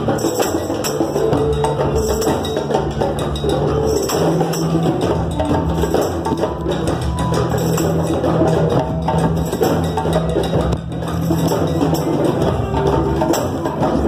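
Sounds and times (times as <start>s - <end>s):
hand drums playing: 0.0s - 14.0s.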